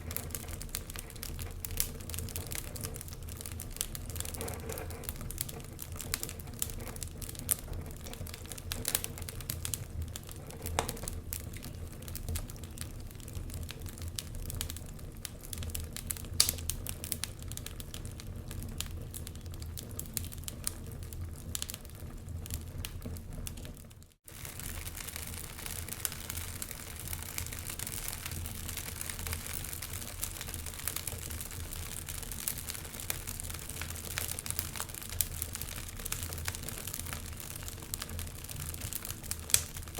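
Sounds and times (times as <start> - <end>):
steady hiss and low hum: 0.0 - 23.5, 24.2 - 39.9
wood fire crackling: 0.0 - 39.9.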